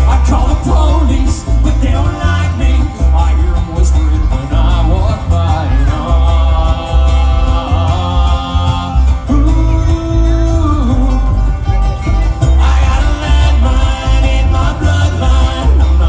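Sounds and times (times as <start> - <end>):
acoustic guitar: 0.0 - 16.0
banjo: 0.0 - 16.0
mandolin: 0.0 - 16.0
upright bass: 0.0 - 16.0.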